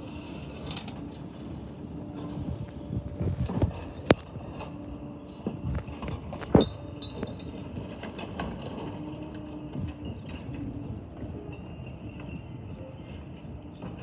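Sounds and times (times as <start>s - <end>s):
garbage truck engine and hydraulic hum: 0.0s - 14.0s.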